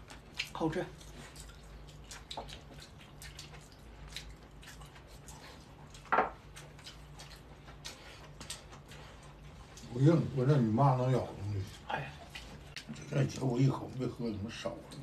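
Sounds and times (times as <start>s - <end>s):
mouths chewing wetly: 0.0s - 15.0s.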